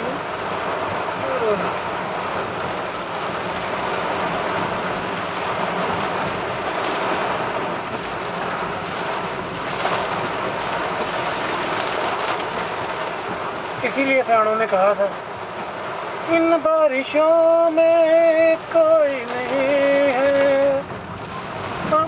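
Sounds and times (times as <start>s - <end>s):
heavy rain on car roof: 0.0s - 22.0s.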